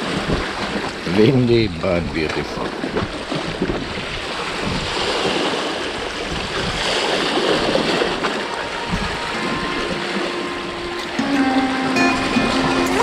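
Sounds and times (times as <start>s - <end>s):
surf washing: 0.0s - 13.0s
wind on microphone: 0.0s - 13.0s.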